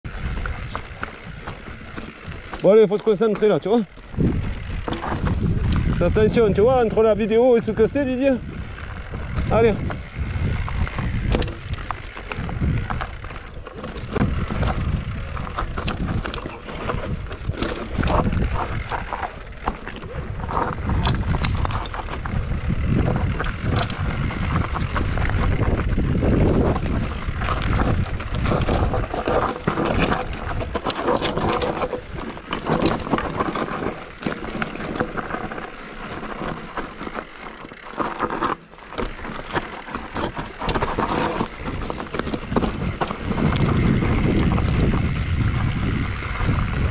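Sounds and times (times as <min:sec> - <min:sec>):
bike rattling: 0:00.0 - 0:46.9
wind rumbling on microphone: 0:00.0 - 0:46.9
bike knocking over bumps: 0:00.1 - 0:07.6, 0:08.4 - 0:46.9.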